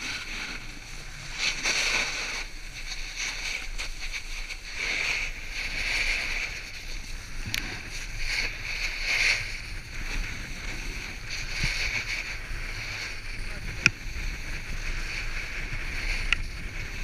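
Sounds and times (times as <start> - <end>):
snowboard scraping over snow: 0.0 - 17.0.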